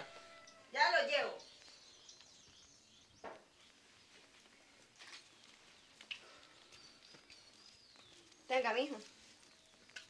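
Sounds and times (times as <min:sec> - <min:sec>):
distant bird chirps: 0:00.0 - 0:10.0.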